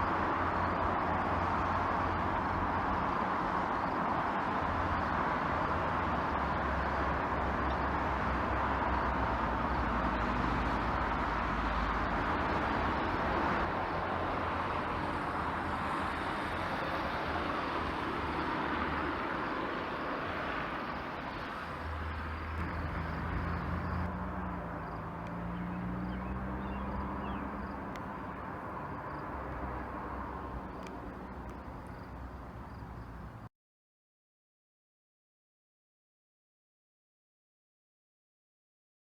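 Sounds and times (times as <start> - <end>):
low engine hum: 0.0 - 33.5.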